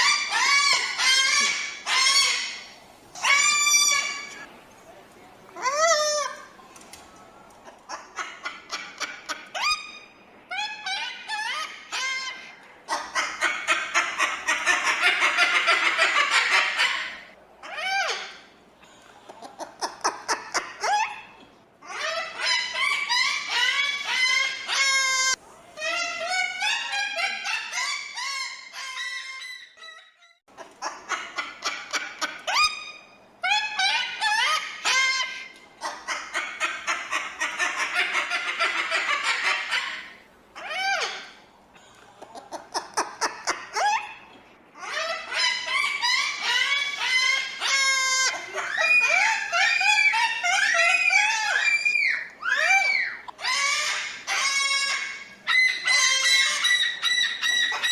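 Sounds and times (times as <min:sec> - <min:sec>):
cockatoo squawking and screeching: 0:00.0 - 0:04.5, 0:05.6 - 0:06.5, 0:07.8 - 0:18.5, 0:19.6 - 0:41.4, 0:42.2 - 0:57.9.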